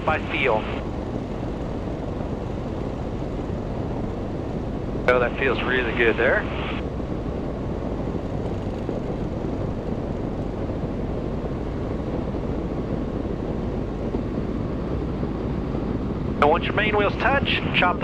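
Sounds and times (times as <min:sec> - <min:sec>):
light aircraft engine droning: 0:00.0 - 0:18.0
wind on microphone: 0:00.0 - 0:18.0.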